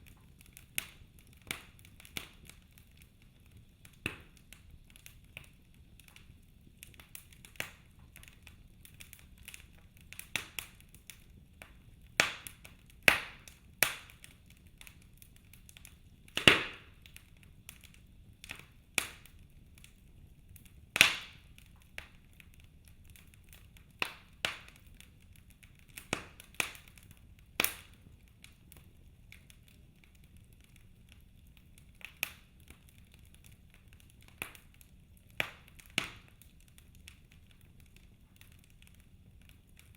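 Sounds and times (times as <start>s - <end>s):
faint low hiss: 0.0s - 39.9s
wood fire crackling and popping: 0.0s - 39.9s.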